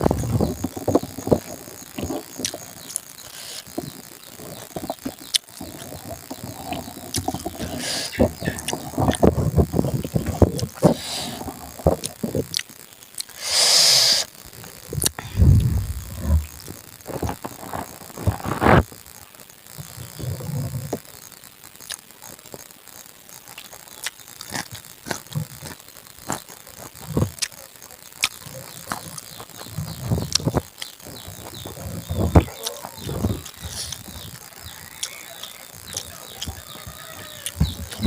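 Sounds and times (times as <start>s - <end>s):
chewing and mouth smacking: 0.0s - 13.4s, 14.9s - 18.8s, 21.8s - 22.6s, 23.4s - 38.0s.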